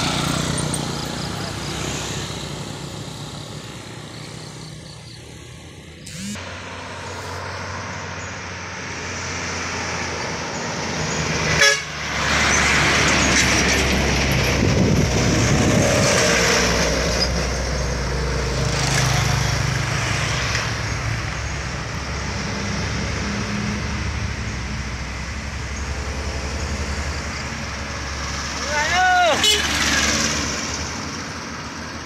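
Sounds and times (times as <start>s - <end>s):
truck passing close by: 0.0s - 4.8s, 6.1s - 32.0s
truck engine: 0.0s - 32.0s.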